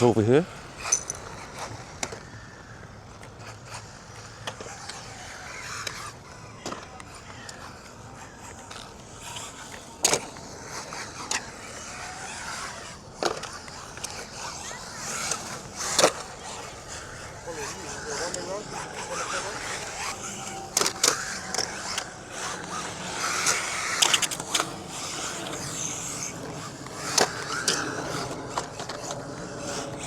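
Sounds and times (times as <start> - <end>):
rc car motor whine: 0.0 - 30.0.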